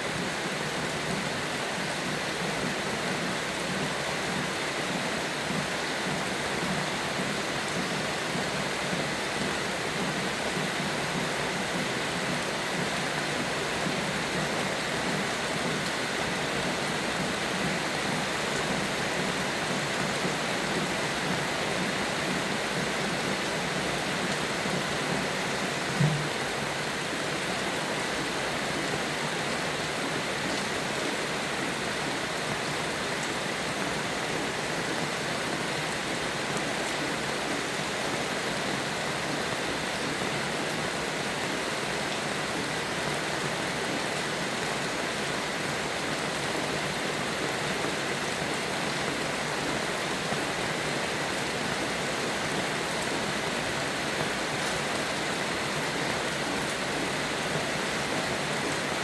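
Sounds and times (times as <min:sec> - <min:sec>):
heavy rain falling: 0:00.1 - 0:59.0.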